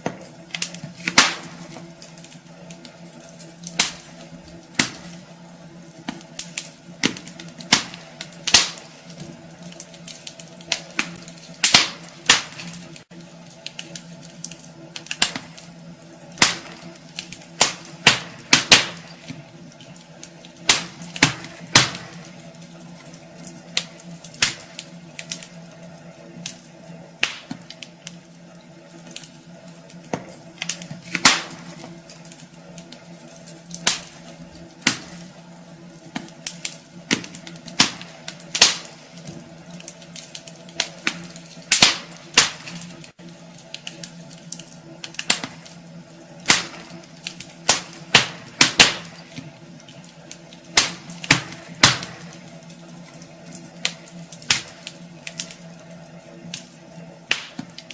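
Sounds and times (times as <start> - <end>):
steady low hum: 0.0 - 57.9
wood fire crackling and popping: 0.0 - 57.9.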